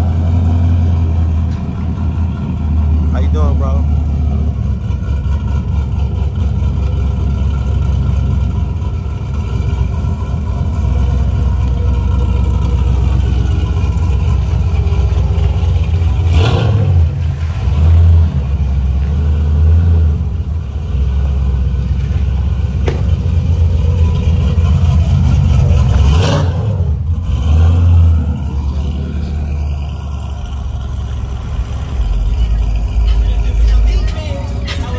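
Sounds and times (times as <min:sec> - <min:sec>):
car engines rumbling past: 0:00.0 - 0:34.9.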